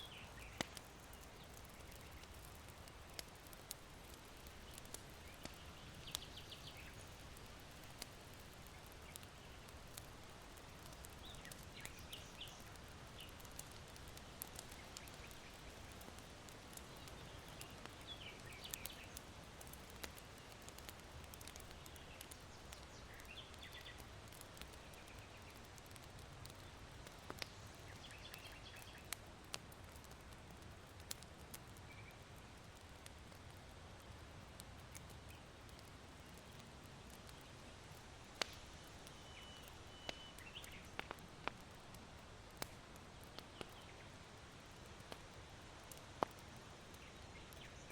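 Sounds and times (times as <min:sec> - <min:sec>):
small birds chirping: 0:00.0 - 0:29.2, 0:34.8 - 0:41.7, 0:43.3 - 0:47.9
charcoal fire crackling and popping: 0:00.0 - 0:47.9
low hiss of wind: 0:00.0 - 0:47.9.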